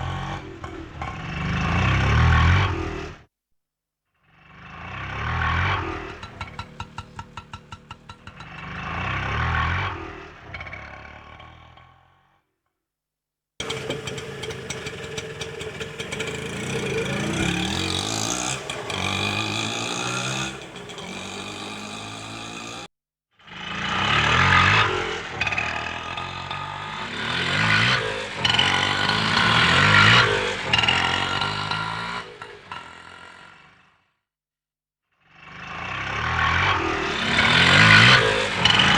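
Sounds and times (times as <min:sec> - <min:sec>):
auto rickshaw engine revving: 0:00.0 - 0:03.3, 0:04.4 - 0:12.3, 0:13.6 - 0:22.9, 0:23.5 - 0:34.0, 0:35.3 - 0:38.9.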